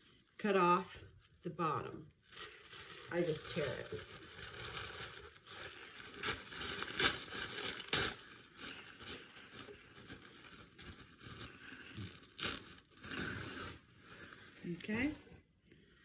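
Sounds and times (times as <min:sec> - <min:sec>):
tissue paper tearing and crinkling: 0:02.1 - 0:15.1.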